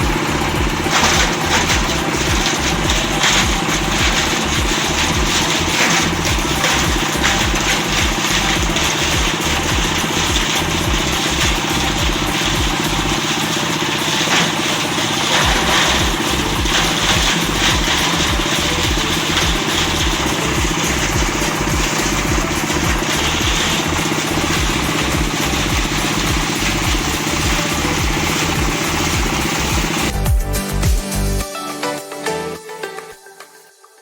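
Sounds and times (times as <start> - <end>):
plastic shredding machine running: 0.0 - 31.4
music: 0.0 - 34.0.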